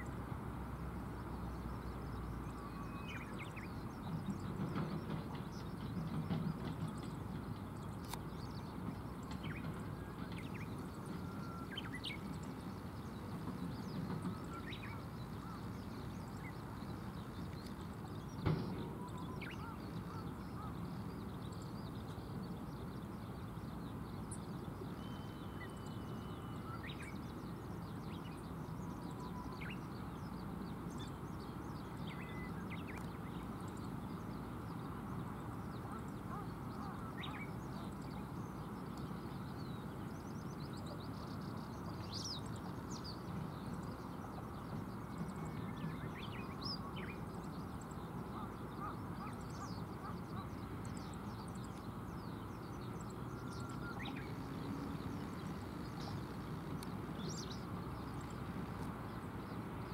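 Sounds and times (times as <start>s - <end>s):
bird calls and chirps: 1.3s - 59.9s.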